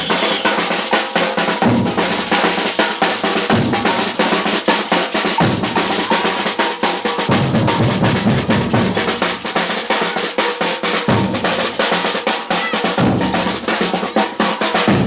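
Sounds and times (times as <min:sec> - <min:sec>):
rapid snare drum strokes: 0:00.0 - 0:15.0.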